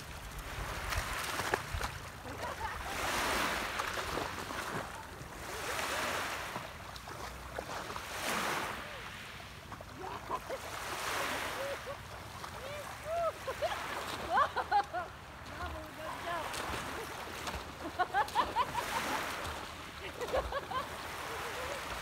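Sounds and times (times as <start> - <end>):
splashing in shallow water: 0.0 - 22.0
waves washing onto pebbles: 0.0 - 22.0.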